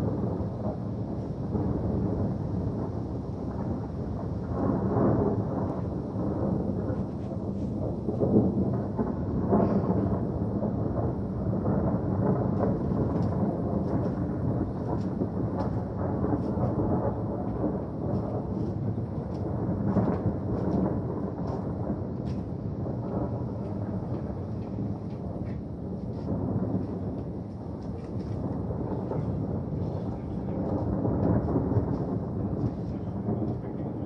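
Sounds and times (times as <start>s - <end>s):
rolling thunder: 0.0s - 34.0s.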